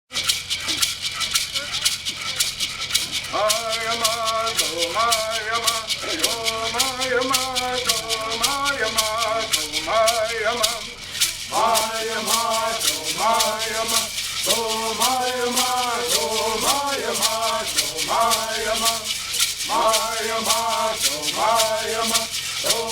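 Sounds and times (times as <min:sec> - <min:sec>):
gourd rattles shaken: 0:00.1 - 0:22.9
singers chanting in unison: 0:03.1 - 0:22.9.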